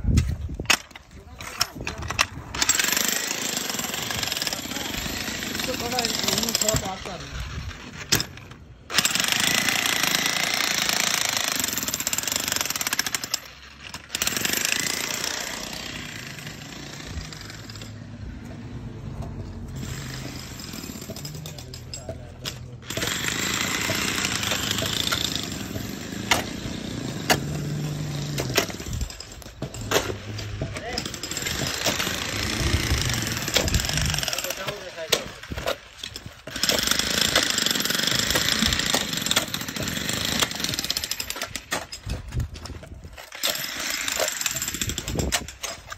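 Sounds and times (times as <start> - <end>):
jackhammer hammering: 1.6 - 45.9.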